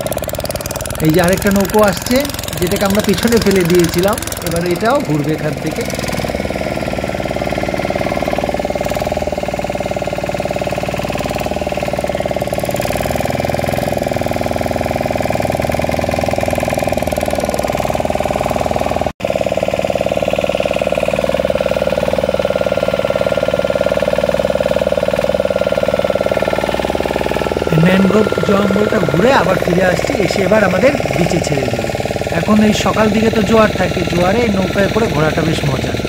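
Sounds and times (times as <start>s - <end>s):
motorboat engine droning: 0.0s - 36.0s.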